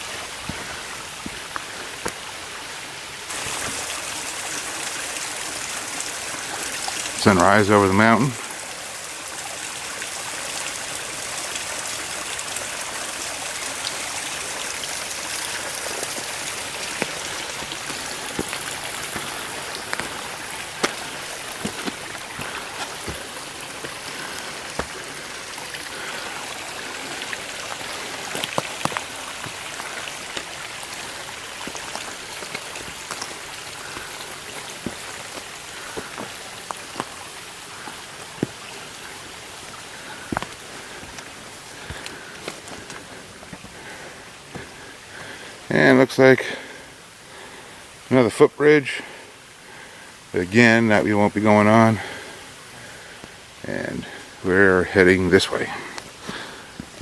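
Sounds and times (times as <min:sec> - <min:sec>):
stream running over rocks: 0:00.0 - 0:57.0.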